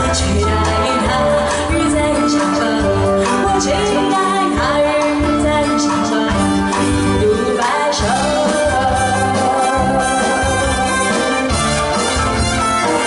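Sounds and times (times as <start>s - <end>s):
woman singing pop ballad: 0.0s - 11.6s
drums: 0.0s - 13.0s
keyboard: 0.0s - 13.0s.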